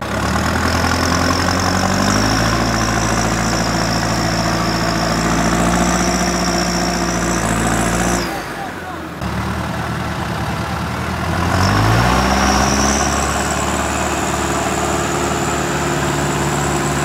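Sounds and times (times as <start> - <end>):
tractor diesel engine straining: 0.0 - 17.0.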